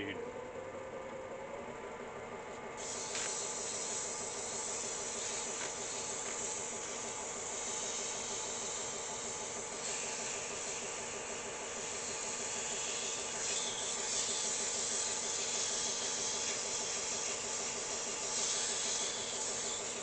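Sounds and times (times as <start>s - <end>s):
lathe humming: 0.0s - 20.0s
sandpaper sanding metal: 2.8s - 20.0s.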